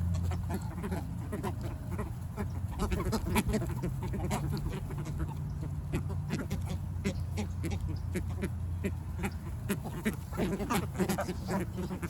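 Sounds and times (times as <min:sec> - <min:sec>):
ducks quacking: 0:00.0 - 0:12.0
other birds calling: 0:00.0 - 0:12.0.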